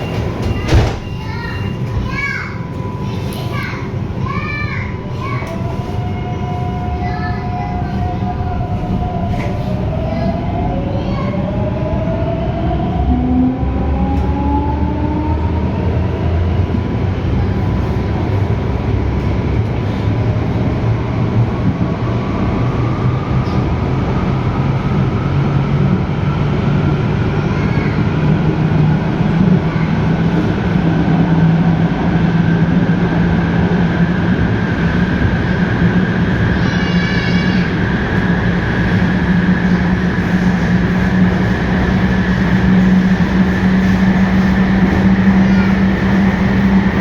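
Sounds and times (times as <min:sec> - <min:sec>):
train car rumbling on track: 0:00.0 - 0:47.0.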